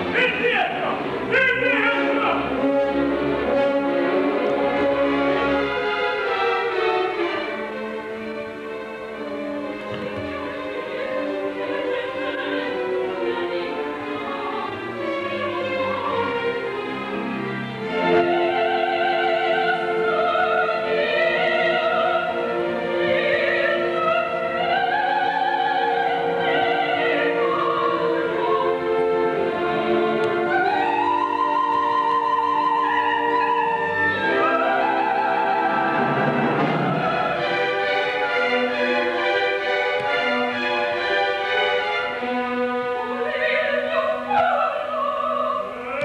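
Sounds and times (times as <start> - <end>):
operatic singing with vibrato: 0.0 - 46.0
orchestral accompaniment: 0.0 - 46.0.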